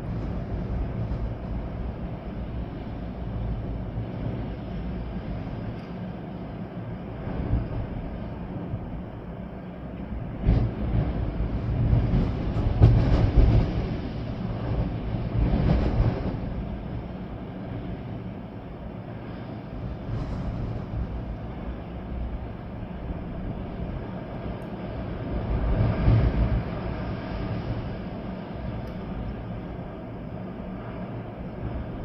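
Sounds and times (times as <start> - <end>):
rain: 0.0 - 32.0
strong wind gusting through trees: 0.0 - 32.0.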